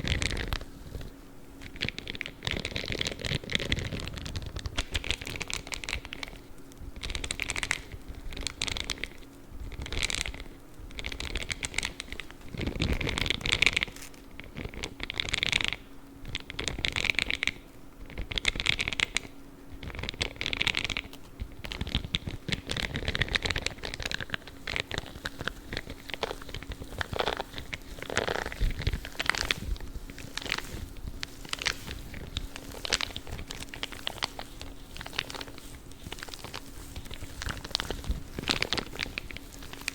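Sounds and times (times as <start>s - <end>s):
gloves scratchy rustling: 0.0s - 15.8s, 18.4s - 39.9s.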